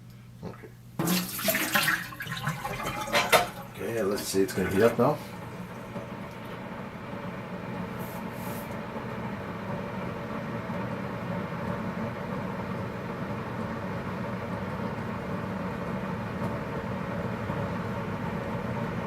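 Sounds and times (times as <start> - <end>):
coffee maker rumble and hiss: 0.0 - 19.0.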